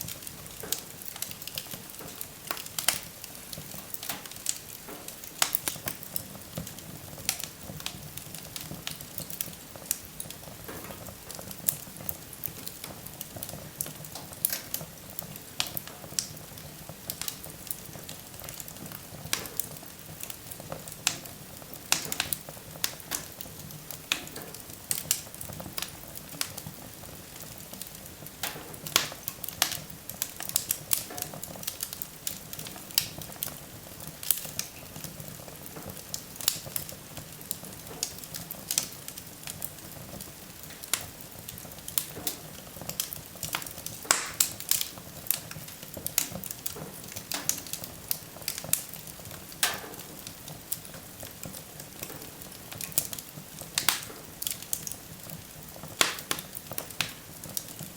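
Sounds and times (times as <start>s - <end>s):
low hiss of burning: 0.0s - 57.9s
wood fire crackling and popping: 0.0s - 57.9s.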